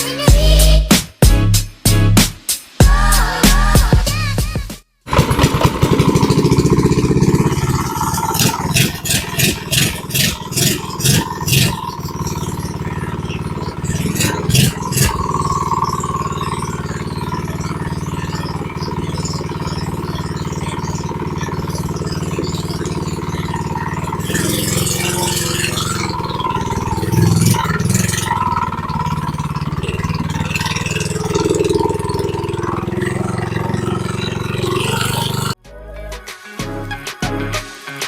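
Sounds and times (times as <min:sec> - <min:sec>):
small engine running: 0:05.1 - 0:35.6.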